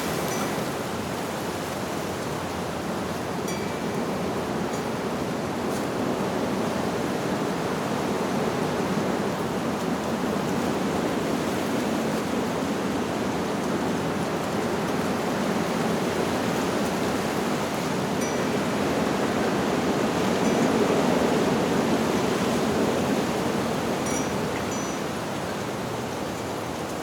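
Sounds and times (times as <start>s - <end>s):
wind rustling leaves: 0.0s - 27.0s.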